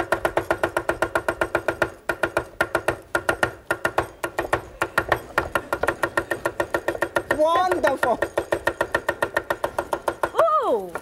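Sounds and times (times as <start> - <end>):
knives chopping on wooden boards: 0.0 - 11.0.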